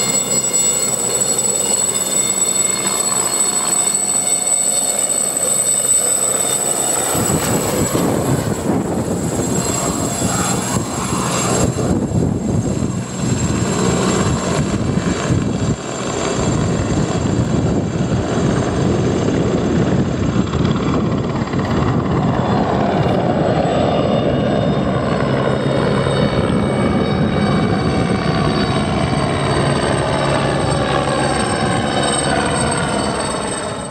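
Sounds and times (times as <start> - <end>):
helicopter rotor noise: 0.0 - 33.9
helicopter turbine whine: 0.0 - 33.9.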